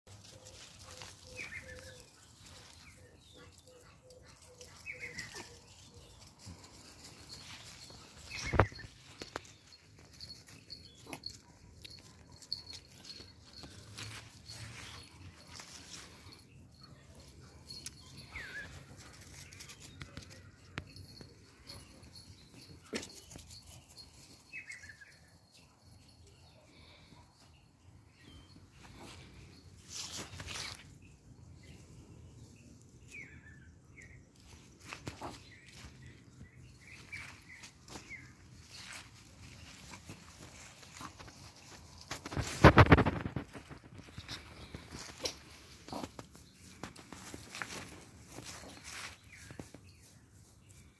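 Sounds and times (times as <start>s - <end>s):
rustling on grass: 0.1s - 25.2s, 28.4s - 32.1s, 34.3s - 50.9s.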